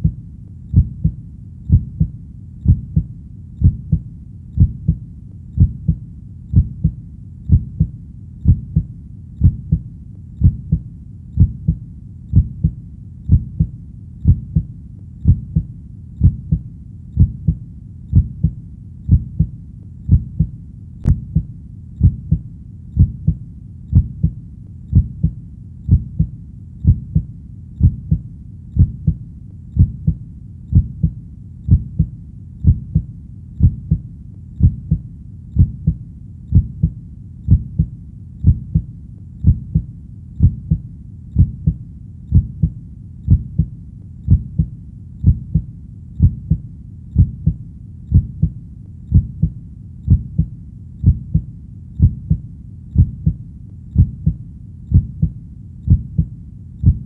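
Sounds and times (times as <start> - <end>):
heartbeat thumps: 0.0 - 57.0.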